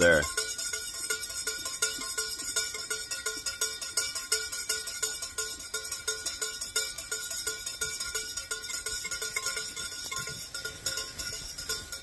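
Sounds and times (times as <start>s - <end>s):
metal spoon clinking against mug: 0.0s - 12.0s.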